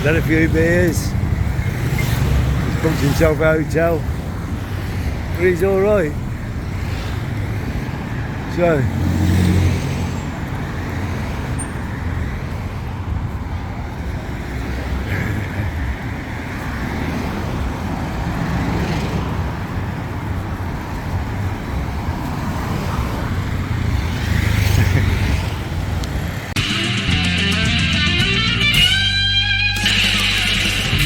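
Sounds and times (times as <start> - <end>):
vehicle engines running: 0.0 - 31.0
vehicles passing: 0.0 - 31.0.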